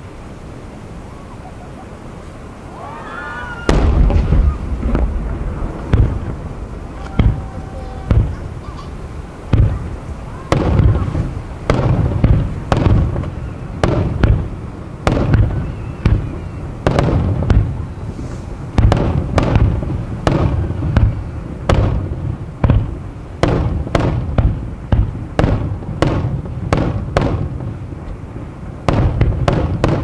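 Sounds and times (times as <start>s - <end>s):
firework bursts with echo: 3.5s - 30.0s.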